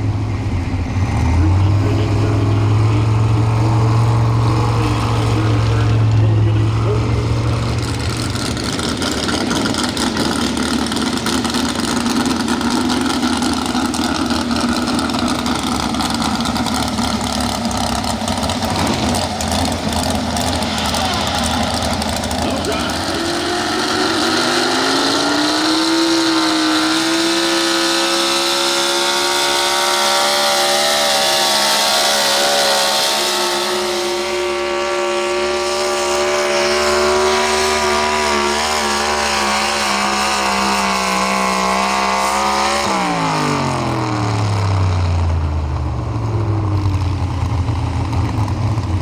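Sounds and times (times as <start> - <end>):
truck engine at full throttle: 0.0 - 49.0.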